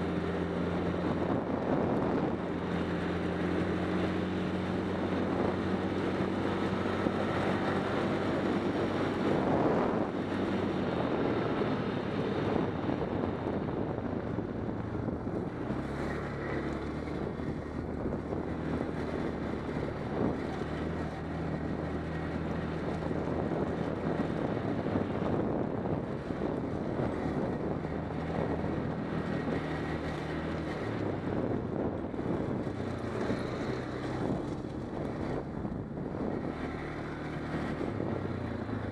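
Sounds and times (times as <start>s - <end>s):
atv engine running: 0.0s - 38.9s
wind buffeting microphone: 0.0s - 38.9s.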